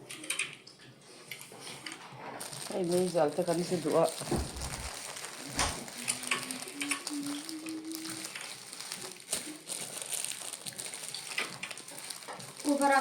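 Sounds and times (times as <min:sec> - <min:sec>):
crinkly crackling: 0:00.0 - 0:13.0.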